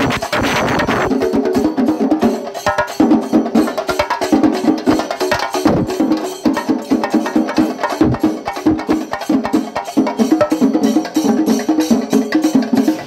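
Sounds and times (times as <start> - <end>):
drums beaten with sticks: 0.0 - 13.0.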